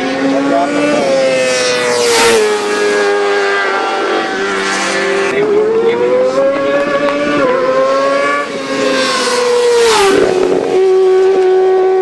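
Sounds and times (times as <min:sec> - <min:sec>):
rush of passing bike: 0:00.0 - 0:12.0
sport bike engine at high revs: 0:00.0 - 0:12.0.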